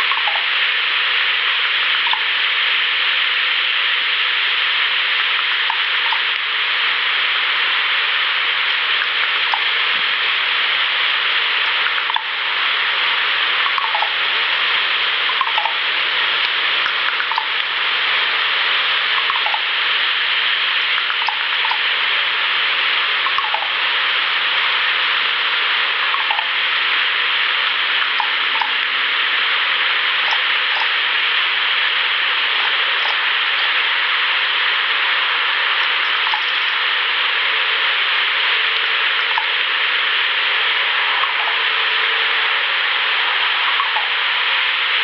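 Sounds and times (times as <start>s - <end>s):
steady rushing hiss: 0.0s - 45.0s.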